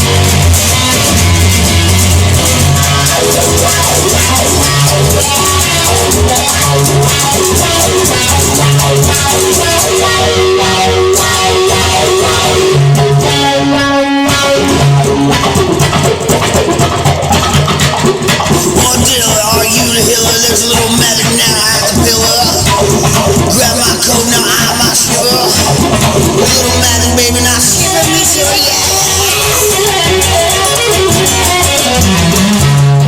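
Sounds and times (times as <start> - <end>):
bass guitar: 0.0 - 33.0
drum kit: 0.0 - 33.0
rock guitar: 0.0 - 33.0.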